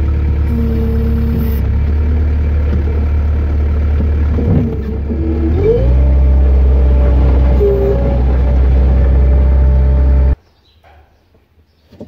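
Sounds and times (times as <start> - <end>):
skid loader engine running: 0.0 - 10.4.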